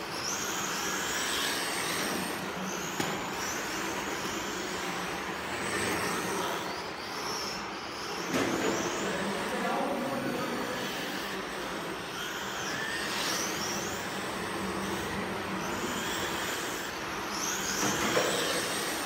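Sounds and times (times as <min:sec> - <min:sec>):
radio-controlled car motors whining: 0:00.0 - 0:19.0.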